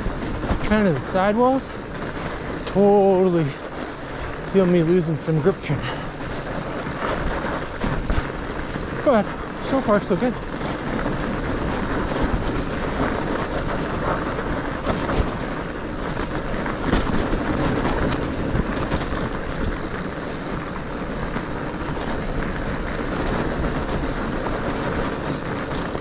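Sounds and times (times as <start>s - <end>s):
bike knocking and rattling: 0.0s - 26.0s
tyres rumbling on snow: 0.0s - 26.0s
wind on microphone: 0.0s - 26.0s.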